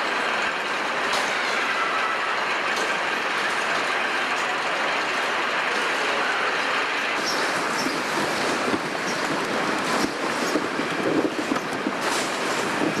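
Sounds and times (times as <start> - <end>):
roller coaster lift chain clattering: 0.0 - 13.0.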